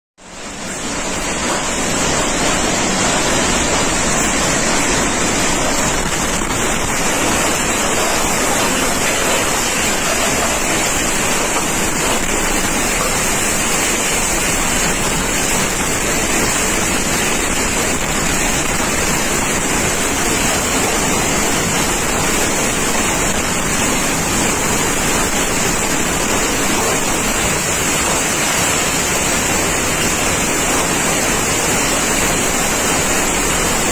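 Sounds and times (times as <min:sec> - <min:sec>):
heavy rain: 0:00.2 - 0:33.9
storm wind rushing: 0:00.8 - 0:33.9.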